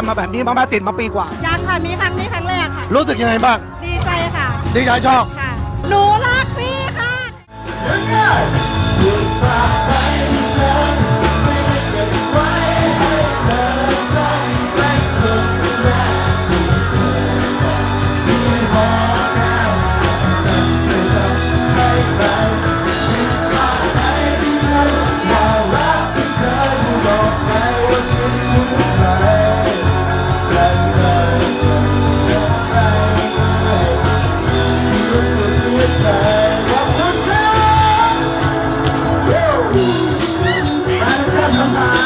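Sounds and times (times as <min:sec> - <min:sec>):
rock music with singing: 0:00.0 - 0:42.0.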